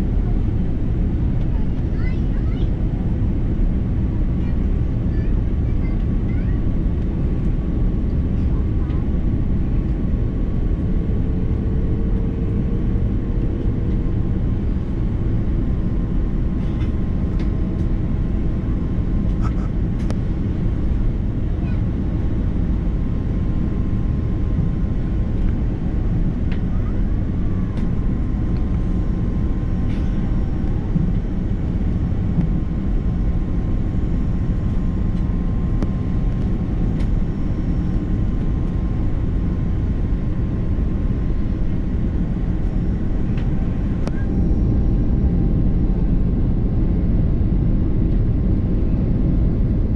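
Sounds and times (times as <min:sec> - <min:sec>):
airliner cabin engine rumble: 0:00.0 - 0:49.9
faint steady whine: 0:00.0 - 0:49.9.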